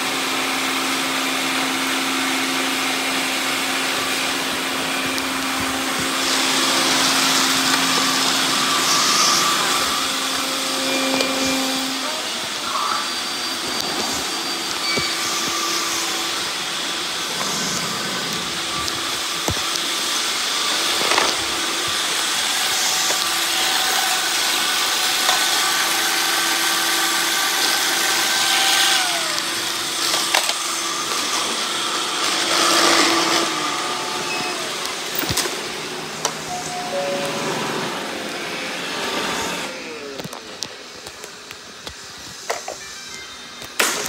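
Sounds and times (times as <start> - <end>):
robot vacuum whirring: 0.0 - 44.0.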